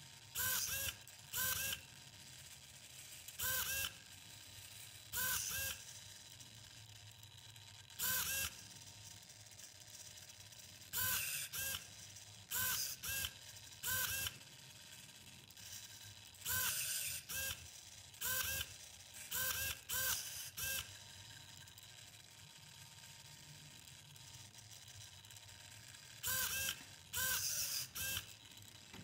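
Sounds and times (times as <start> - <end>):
robot arm motors whirring: 0.1 - 29.0.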